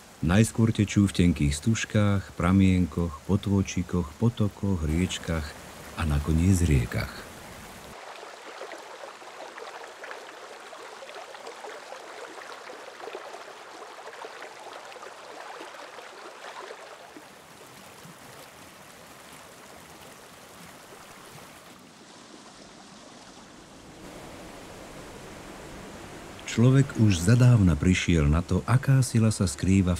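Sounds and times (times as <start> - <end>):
stream water rushing: 0.0 - 29.9.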